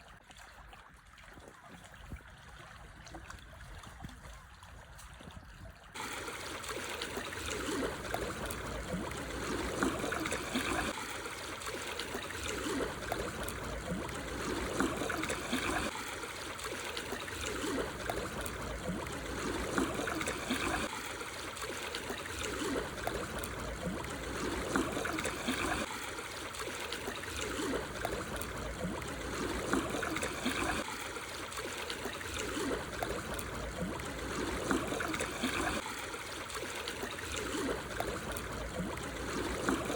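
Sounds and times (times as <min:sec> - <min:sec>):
sea waves lapping over stones: 0:05.9 - 0:39.9.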